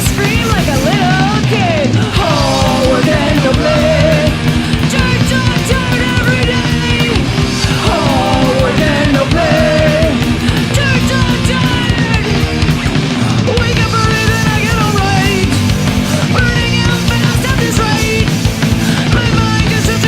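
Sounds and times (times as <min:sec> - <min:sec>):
distorted electric guitars: 0:00.0 - 0:20.0
drums: 0:00.0 - 0:20.0
punk rock band playing: 0:00.0 - 0:20.0.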